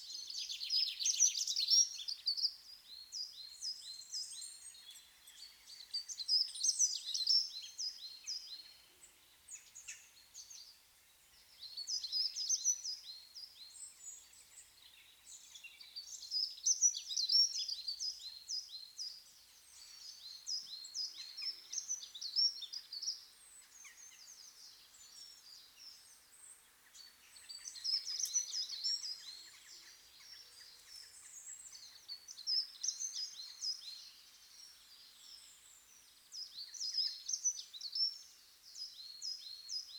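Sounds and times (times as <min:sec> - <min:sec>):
songbird singing rapid chirps: 0:00.0 - 0:39.9.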